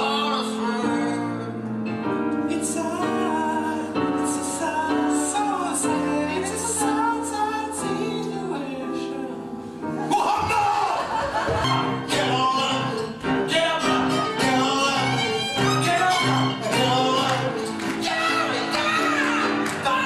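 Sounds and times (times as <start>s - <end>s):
person singing with vibrato: 0.0s - 1.6s, 2.5s - 20.0s
grand piano chords: 0.0s - 20.0s.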